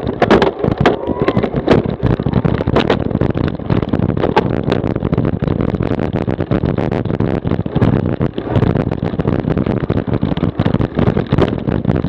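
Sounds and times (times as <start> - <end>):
bike rattling and knocking: 0.0 - 12.0
low wind rumble: 0.0 - 12.0.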